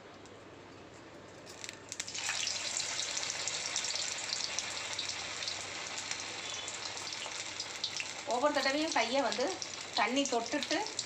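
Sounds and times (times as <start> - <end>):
oil crackling: 1.5 - 11.0
batter sizzling in hot oil: 1.6 - 11.0.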